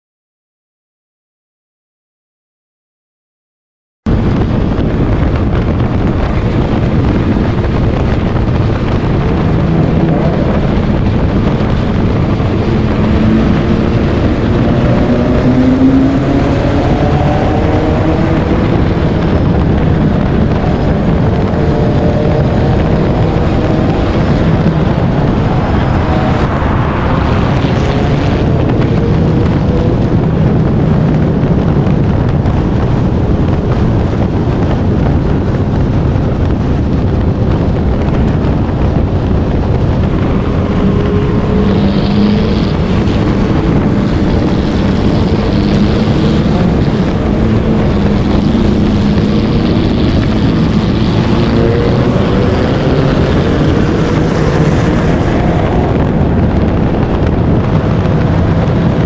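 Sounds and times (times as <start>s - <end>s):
wind and road noise: 4.0s - 59.0s
race car engine revving: 4.2s - 34.6s, 35.2s - 59.0s.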